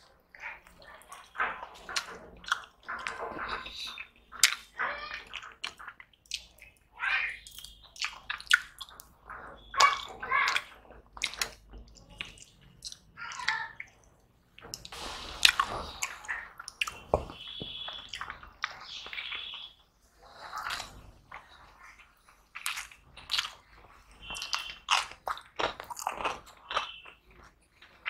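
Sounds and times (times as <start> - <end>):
wet chewing and lip-smacking: 0.2 - 14.9, 15.9 - 28.0.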